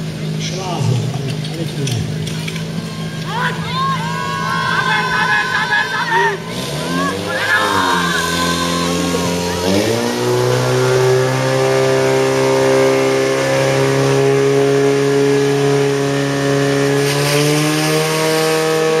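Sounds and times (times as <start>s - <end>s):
fire pump engine revving: 0.0s - 19.0s.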